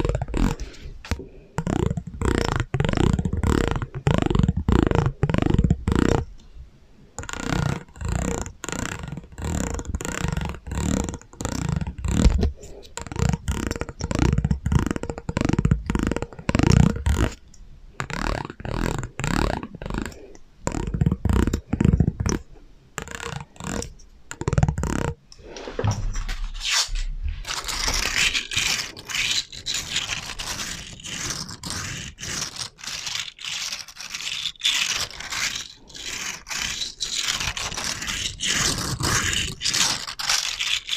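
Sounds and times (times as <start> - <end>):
rapid scraping and scratching: 0.0 - 6.3, 7.2 - 40.9.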